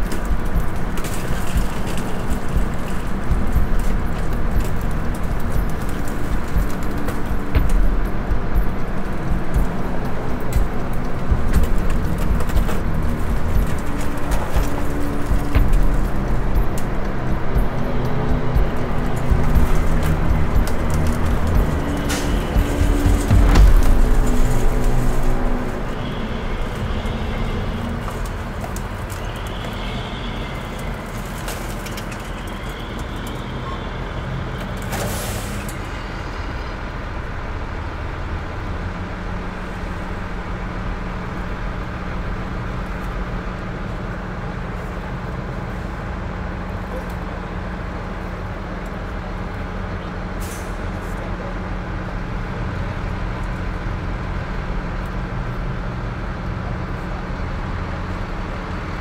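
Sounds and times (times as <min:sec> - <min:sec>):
heavy vehicle engine idling: 0:00.0 - 0:59.0.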